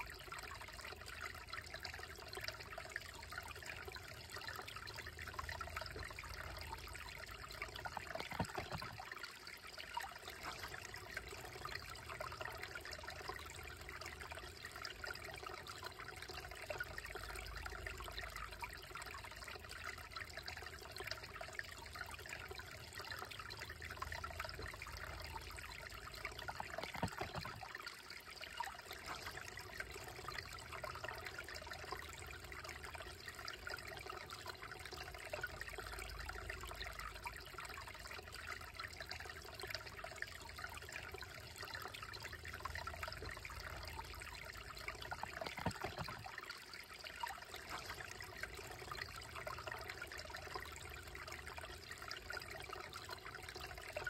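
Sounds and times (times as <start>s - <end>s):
creek babbling over stones: 0.0s - 54.0s.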